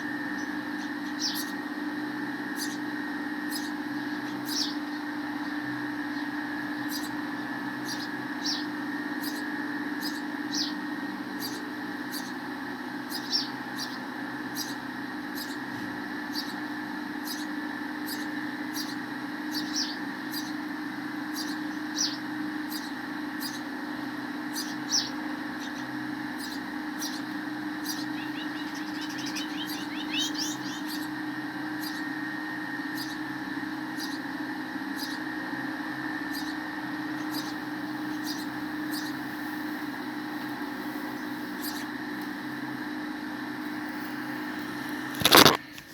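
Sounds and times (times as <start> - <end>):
sparrows chirping: 0.0 - 45.6
steady background hum: 0.0 - 45.9.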